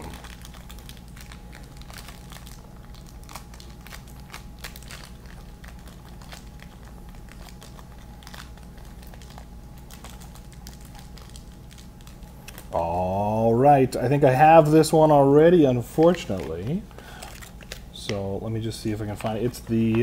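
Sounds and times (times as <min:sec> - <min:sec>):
wrapper crumpling crackles: 0:00.0 - 0:13.0, 0:14.2 - 0:20.0.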